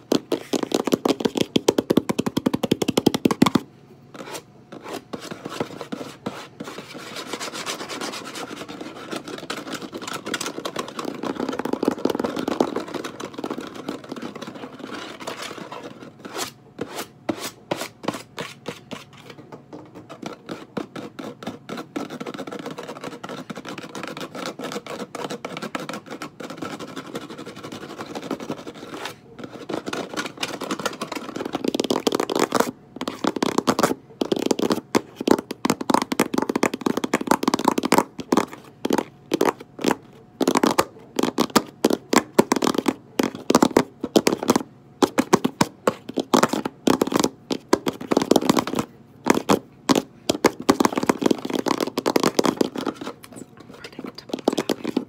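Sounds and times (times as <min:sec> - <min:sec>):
fingernails tapping and scratching: 0:00.1 - 0:55.0.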